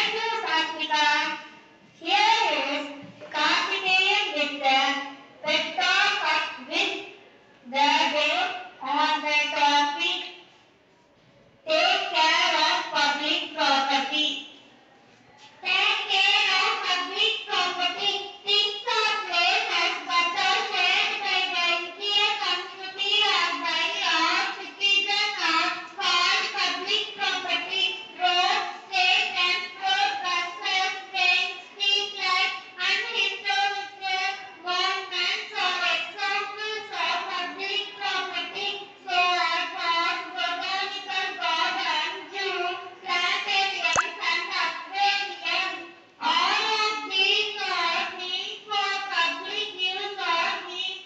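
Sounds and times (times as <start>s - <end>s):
child speaking into a microphone: 0.0s - 10.3s, 15.4s - 51.0s.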